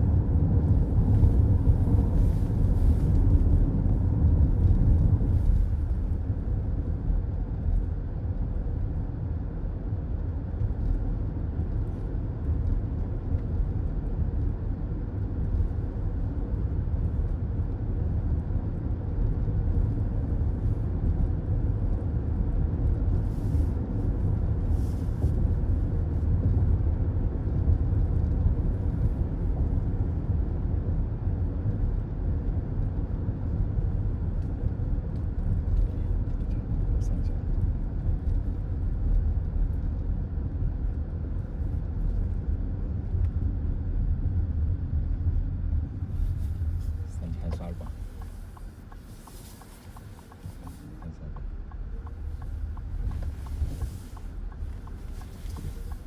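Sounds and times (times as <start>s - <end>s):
road and tyre noise in car: 0.0s - 56.0s.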